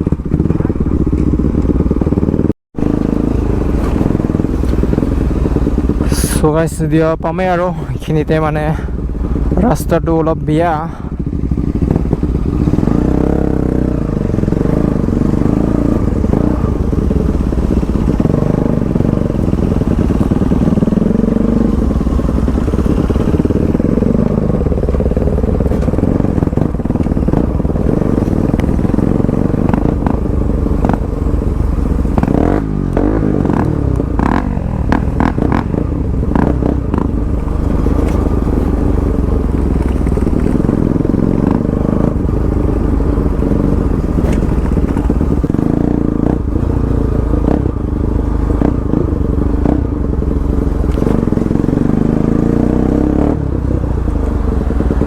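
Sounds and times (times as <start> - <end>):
motorcycle knocks and rattles: 0.0 - 6.4, 8.7 - 55.0
motorcycle engine revving: 0.0 - 55.0.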